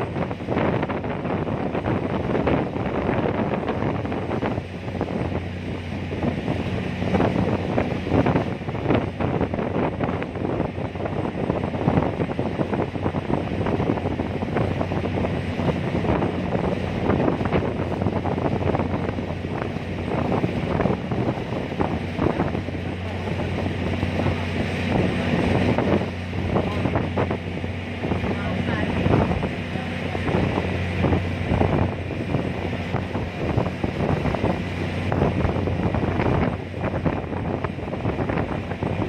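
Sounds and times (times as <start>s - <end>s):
ferry engine hum: 0.0s - 39.0s
wind buffeting microphone: 0.0s - 39.0s.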